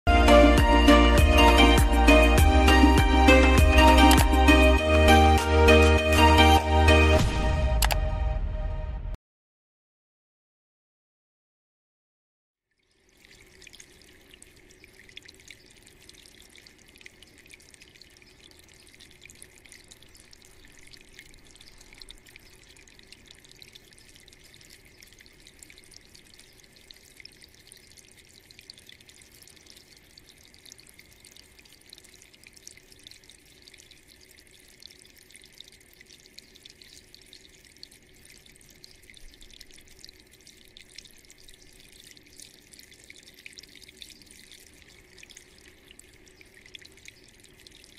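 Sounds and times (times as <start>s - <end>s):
fountain water trickling and dripping: 0.1s - 7.2s, 12.6s - 47.9s.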